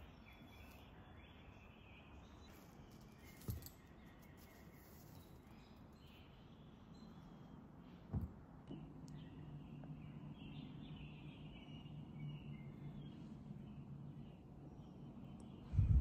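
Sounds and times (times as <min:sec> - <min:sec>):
faint bird chirps: 0:00.0 - 0:08.1, 0:08.7 - 0:16.0.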